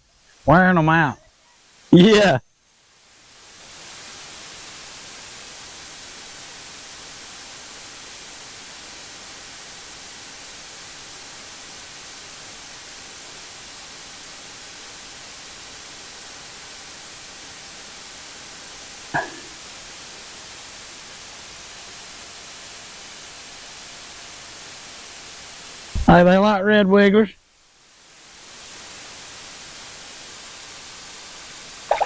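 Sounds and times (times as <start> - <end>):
steady electronic hiss: 0.0 - 32.0.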